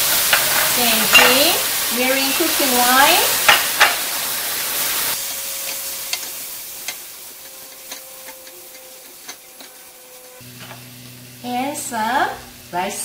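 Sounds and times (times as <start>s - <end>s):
peppers sizzling in hot oil: 0.0s - 13.0s.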